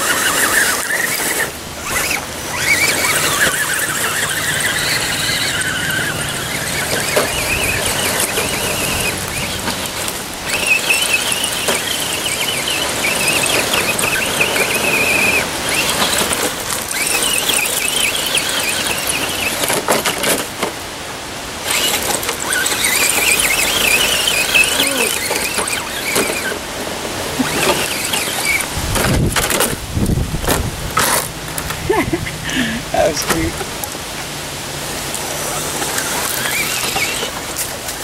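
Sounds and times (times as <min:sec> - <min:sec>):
electric motor whining: 0:00.0 - 0:20.8, 0:21.6 - 0:33.8, 0:35.1 - 0:38.0.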